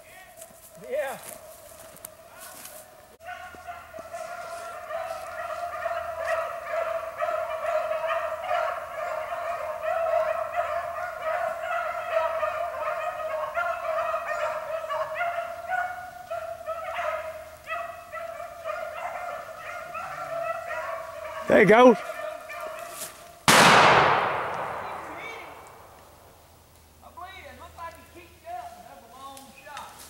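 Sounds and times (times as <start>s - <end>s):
hounds baying: 1.2s - 26.4s.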